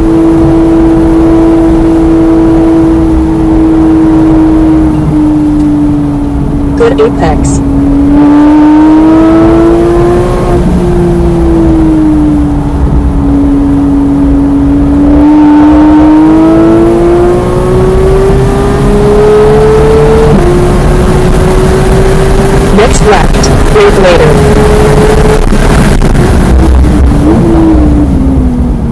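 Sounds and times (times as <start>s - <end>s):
car engine at high revs: 0.0s - 28.9s.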